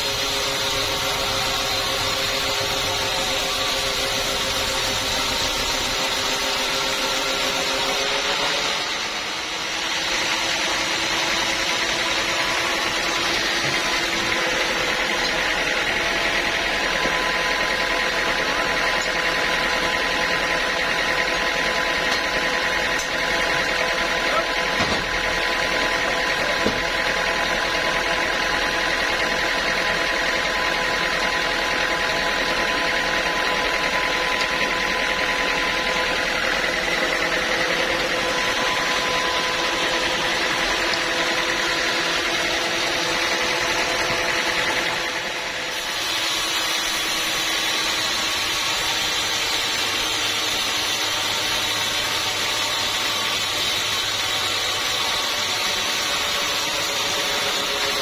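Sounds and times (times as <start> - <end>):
band sawmill whining: 0.0 - 58.0.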